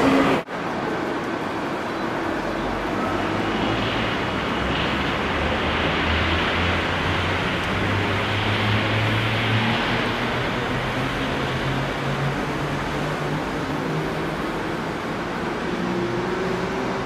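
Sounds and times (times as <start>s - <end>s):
train platform rumble and hiss: 0.0s - 17.0s.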